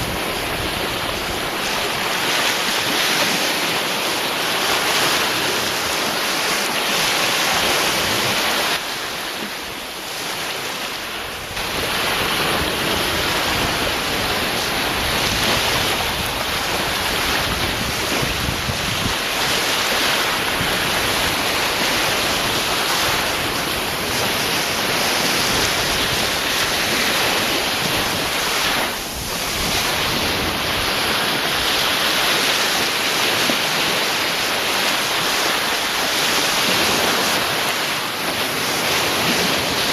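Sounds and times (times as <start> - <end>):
waves breaking and washing: 0.0 - 39.9
wind: 0.0 - 39.9.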